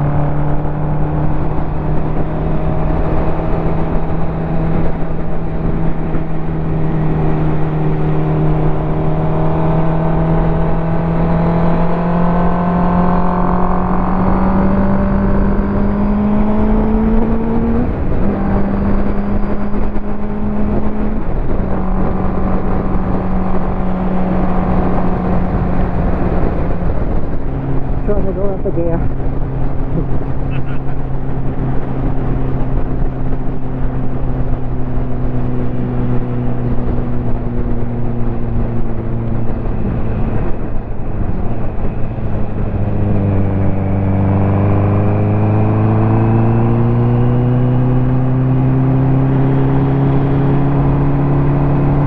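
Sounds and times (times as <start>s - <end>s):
low wind rush: 0.0s - 52.0s
motorcycle engine accelerating: 0.0s - 52.0s.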